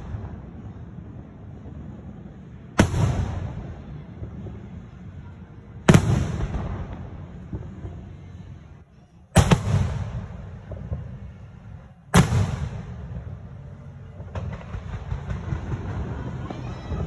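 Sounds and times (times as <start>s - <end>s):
firework booms: 0.0s - 2.0s, 2.7s - 5.1s, 5.8s - 8.4s, 9.4s - 17.0s
rapid firework crackling: 0.0s - 17.0s.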